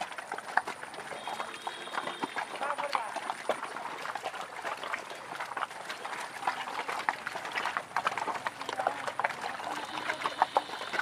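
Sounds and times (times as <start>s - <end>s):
cattle hooves in mud: 0.0s - 11.0s.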